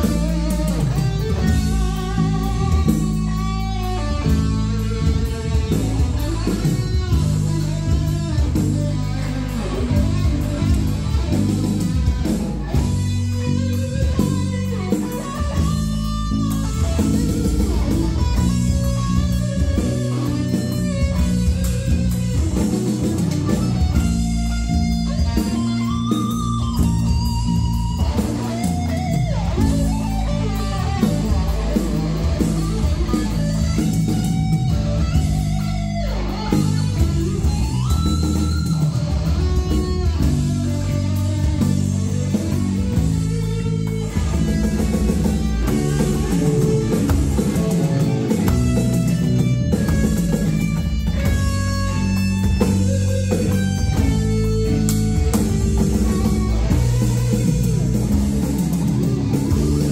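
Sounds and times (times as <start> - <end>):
bass guitar: 0.0 - 59.9
drums: 0.0 - 59.9
electric guitar melody: 0.0 - 59.9.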